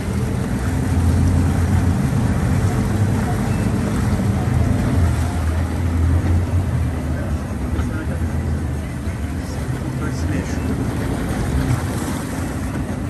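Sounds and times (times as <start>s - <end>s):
outboard engines rumbling: 0.0s - 13.0s
water around hulls: 0.0s - 13.0s.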